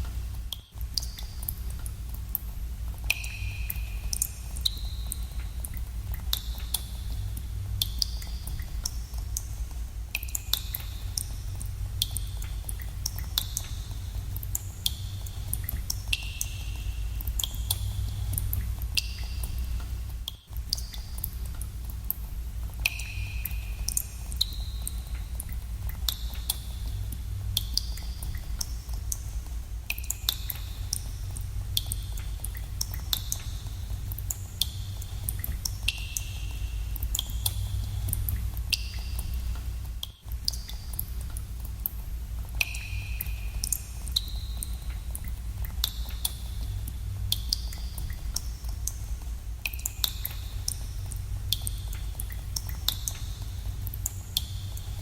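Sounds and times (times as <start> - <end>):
steady low rumble: 0.0 - 55.0
water drops plinking in a cave: 0.0 - 55.0.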